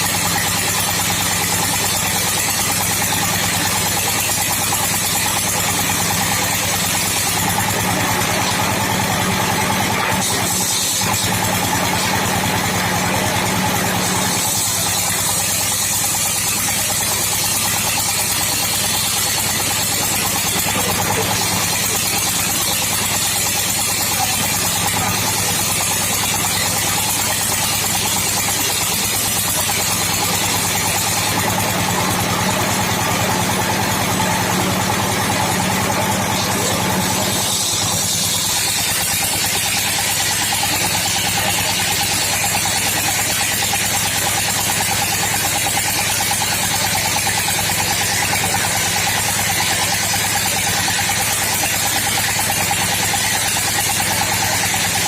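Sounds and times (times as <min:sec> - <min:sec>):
sawmill machine droning: 0:00.0 - 0:55.0.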